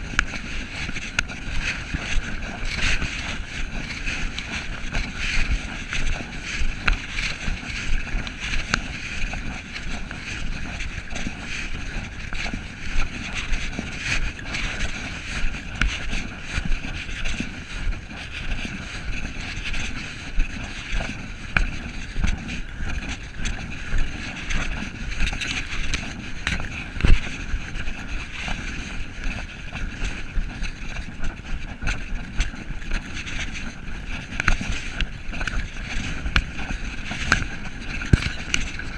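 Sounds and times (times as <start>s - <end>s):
footsteps: 0.0s - 38.9s
wind on microphone: 0.0s - 38.9s.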